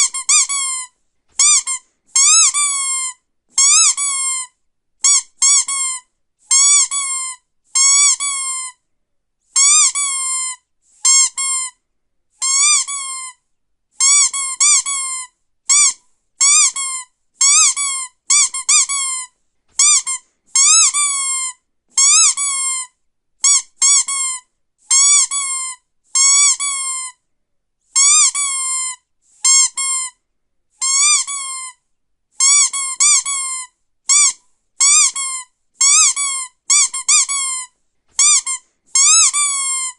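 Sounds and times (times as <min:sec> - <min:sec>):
squeaky dog toy squeaks: 0:00.0 - 0:08.8, 0:09.5 - 0:11.8, 0:12.4 - 0:13.4, 0:14.0 - 0:27.2, 0:27.9 - 0:30.2, 0:30.8 - 0:39.9.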